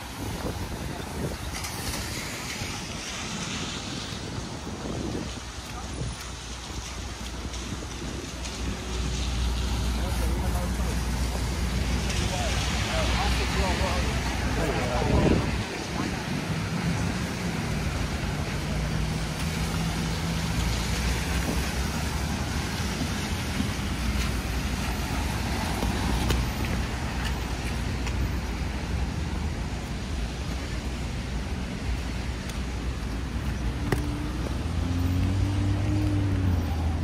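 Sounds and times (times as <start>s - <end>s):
heavy rain: 0.0s - 37.0s
wet tyres on road: 0.0s - 37.0s
vehicle engine hum: 0.1s - 37.0s.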